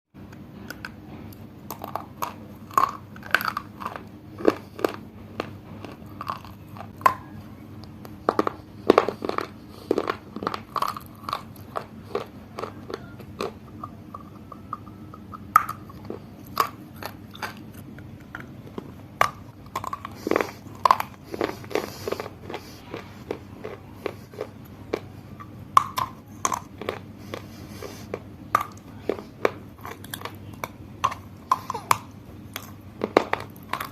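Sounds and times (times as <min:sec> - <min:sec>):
crunchy biting and chewing: 0:00.6 - 0:33.9.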